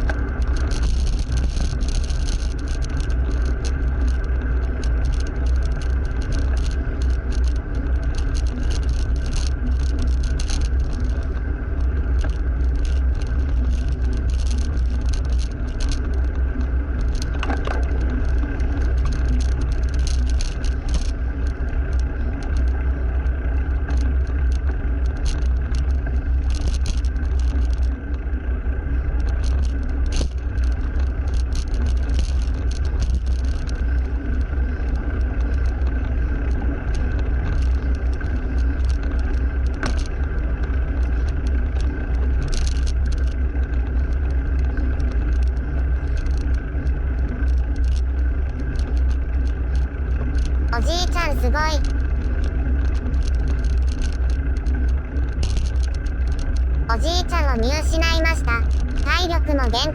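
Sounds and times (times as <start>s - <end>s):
wind rumble on microphone: 0.0s - 50.7s.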